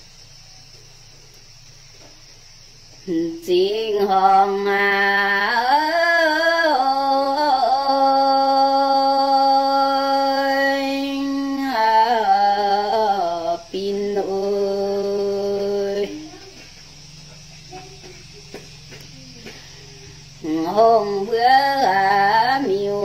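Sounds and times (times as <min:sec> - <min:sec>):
woman singing unaccompanied: 0:03.0 - 0:23.0.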